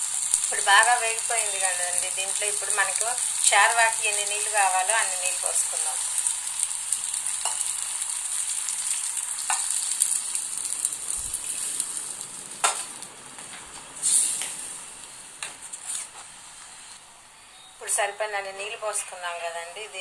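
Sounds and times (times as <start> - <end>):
food sizzling as water is poured: 0.0 - 13.3, 13.9 - 17.0.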